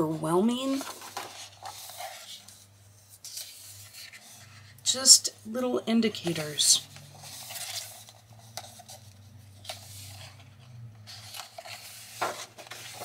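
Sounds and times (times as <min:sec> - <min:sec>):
paper pages rustling: 0:00.4 - 0:04.8, 0:06.0 - 0:13.0.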